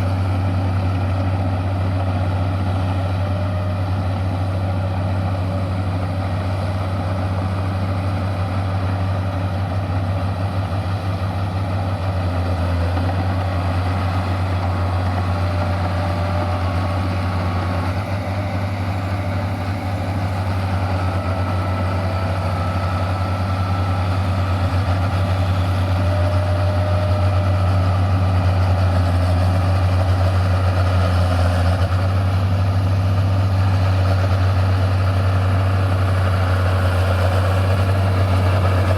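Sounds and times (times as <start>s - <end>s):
tractor engines droning: 0.0s - 38.9s.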